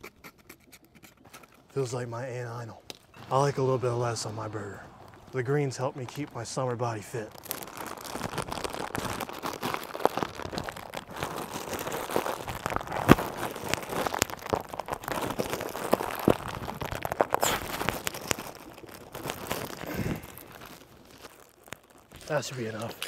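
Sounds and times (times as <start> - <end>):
lettuce leaves tearing and crinkling: 0.0 - 23.0.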